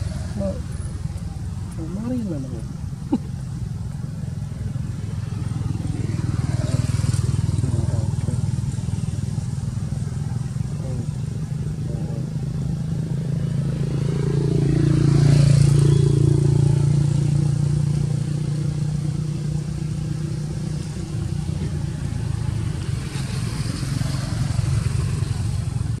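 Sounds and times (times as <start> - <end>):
engine hum: 0.0 - 26.0.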